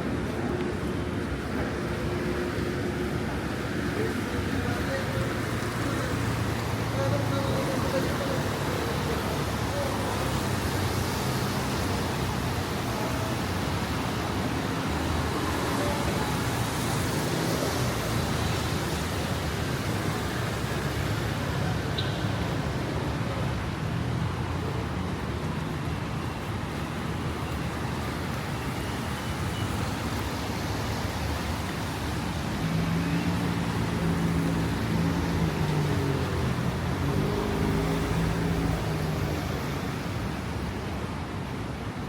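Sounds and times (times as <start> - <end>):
passing cars hum: 0.0 - 42.0.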